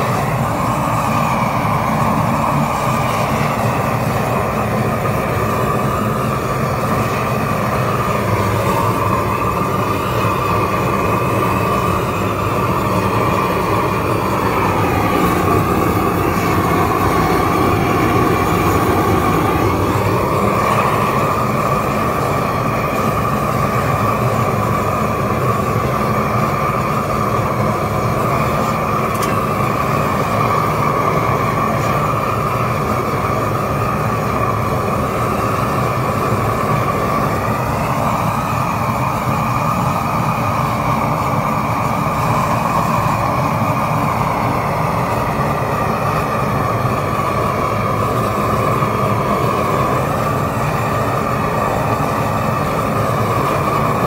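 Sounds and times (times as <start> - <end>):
roofing torch flame burning: 0.0 - 54.0.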